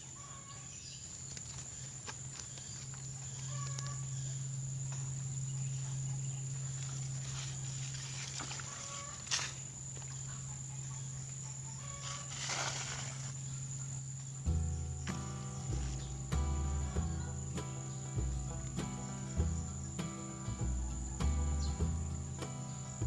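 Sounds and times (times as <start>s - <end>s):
high insect drone: 0.0s - 23.0s
low steady hum: 1.0s - 23.0s.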